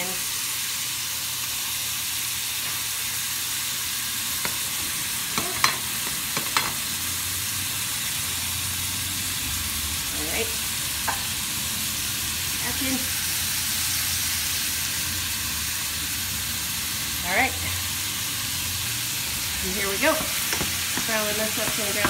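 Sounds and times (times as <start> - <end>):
meat sizzling in hot grease: 0.0 - 22.0.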